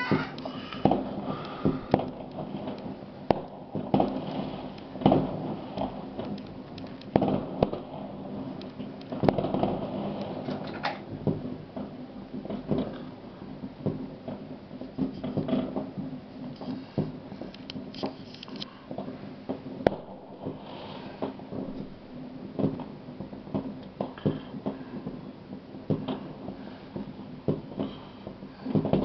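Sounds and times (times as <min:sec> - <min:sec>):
fireworks bangs and crackles: 0:00.0 - 0:29.0
loud firework booms: 0:00.0 - 0:29.0.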